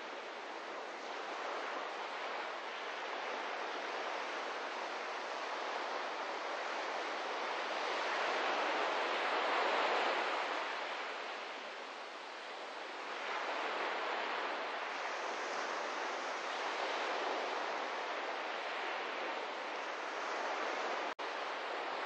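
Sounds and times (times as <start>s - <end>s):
ocean surf on sandy shore: 0.0s - 22.0s.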